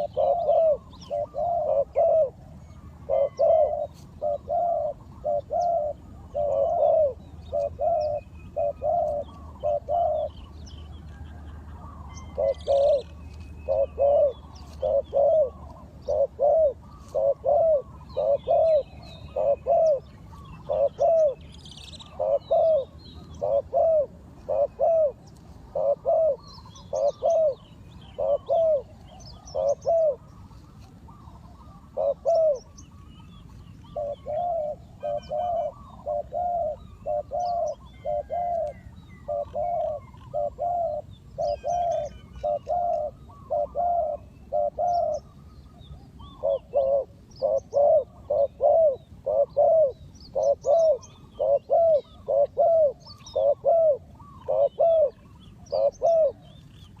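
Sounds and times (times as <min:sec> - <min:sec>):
doves cooing: 0:00.0 - 0:57.0
small birds chirping: 0:00.0 - 0:57.0.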